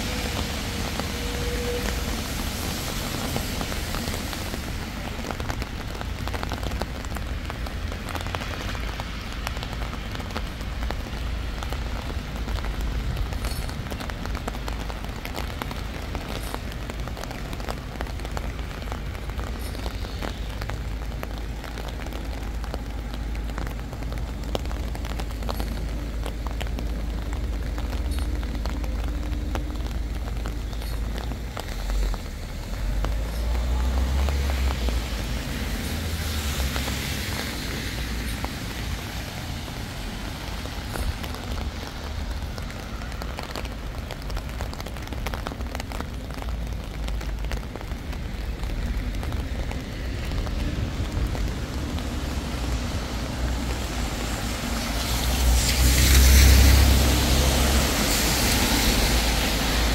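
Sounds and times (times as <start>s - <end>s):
raindrops ticking: 0.0s - 59.9s.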